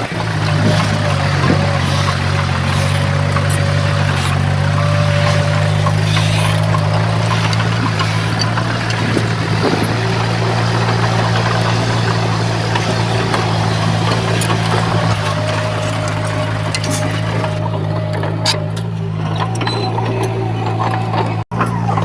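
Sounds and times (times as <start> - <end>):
heavy diesel engine running: 0.0 - 22.0
light clicks and clanks: 0.0 - 22.0.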